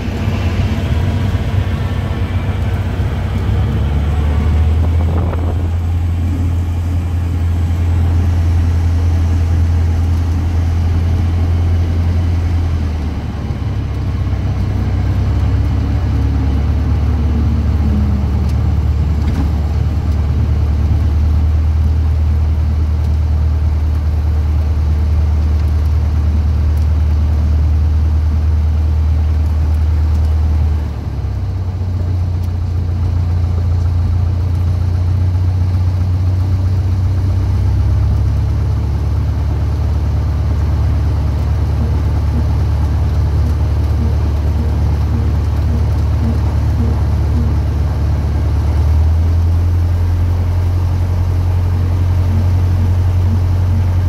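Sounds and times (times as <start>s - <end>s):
light aircraft engine idling: 0.0s - 54.0s.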